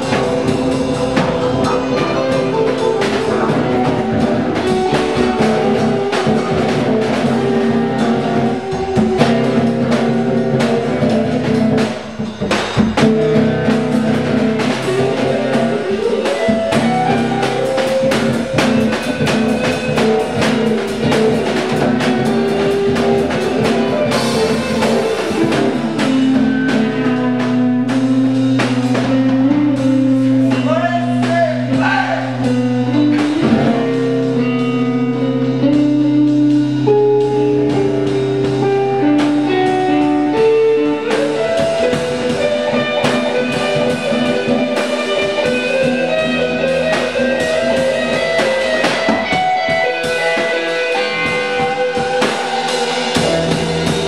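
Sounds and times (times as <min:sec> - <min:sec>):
bending sliding guitar notes: 0:00.0 - 0:54.0
rock band playing slow blues: 0:00.0 - 0:54.0.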